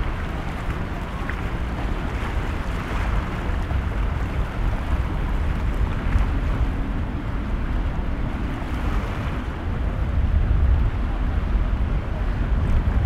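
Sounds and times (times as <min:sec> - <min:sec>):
boat engines running: 0:00.0 - 0:13.0
wash of waves: 0:00.0 - 0:13.0
wind buffeting microphone: 0:00.0 - 0:13.0.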